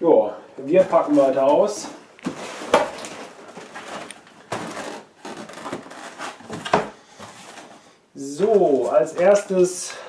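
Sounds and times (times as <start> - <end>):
cardboard packaging rustling: 0.8 - 9.5.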